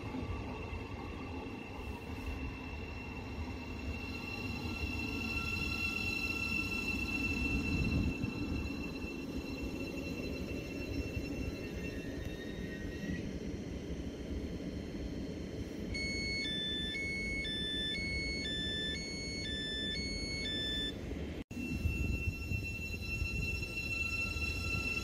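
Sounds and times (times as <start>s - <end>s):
electric train humming and rumbling: 0.0s - 25.0s.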